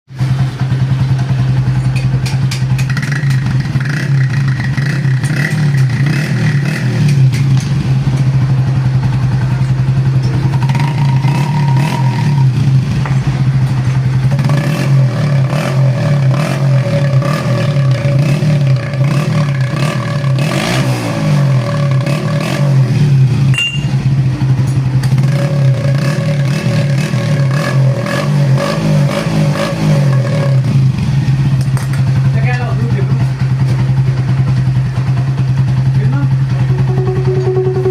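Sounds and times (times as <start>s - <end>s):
motorcycle engine running: 0.1s - 37.9s.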